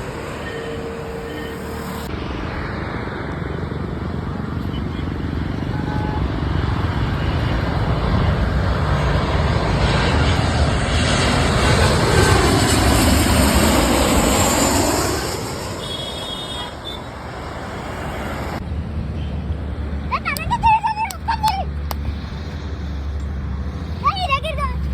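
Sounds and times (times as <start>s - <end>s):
jet airliner passing overhead: 0.0s - 24.9s.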